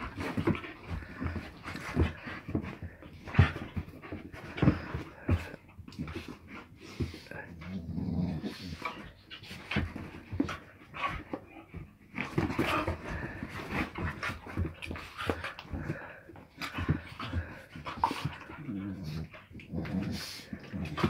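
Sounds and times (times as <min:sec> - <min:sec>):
dogs panting: 0:00.0 - 0:21.0
dogs scuffling: 0:00.0 - 0:21.0.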